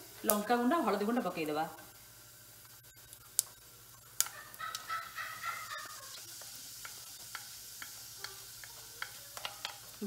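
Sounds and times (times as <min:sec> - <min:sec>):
seeds popping in hot oil: 0:00.0 - 0:01.6, 0:02.6 - 0:10.0
oil sizzling: 0:00.0 - 0:10.0.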